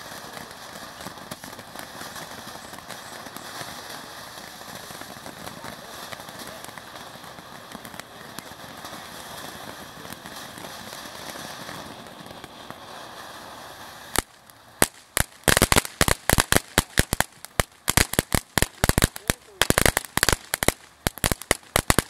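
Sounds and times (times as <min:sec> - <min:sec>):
firework crackling: 0:00.0 - 0:22.0
firework sparks hissing: 0:00.0 - 0:22.0.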